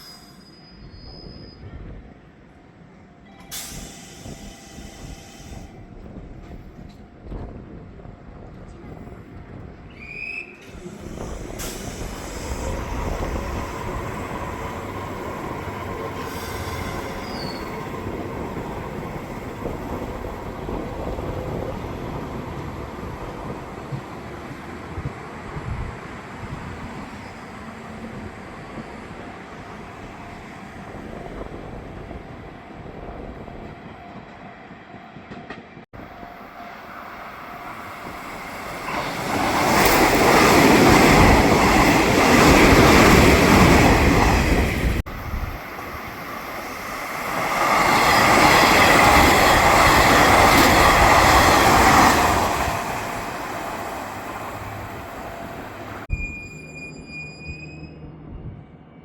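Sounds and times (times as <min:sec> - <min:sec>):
electric train passing: 0:01.8 - 0:56.9.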